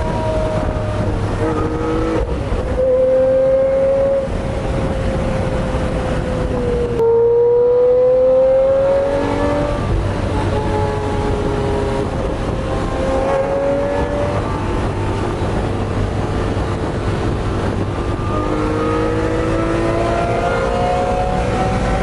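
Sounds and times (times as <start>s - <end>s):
sports car engine revving: 0.0s - 22.0s.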